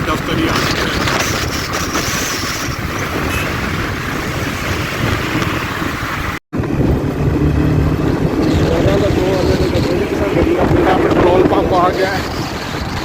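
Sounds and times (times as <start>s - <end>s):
wind noise on microphone: 0.0s - 13.0s
motorbike engine: 0.4s - 13.0s.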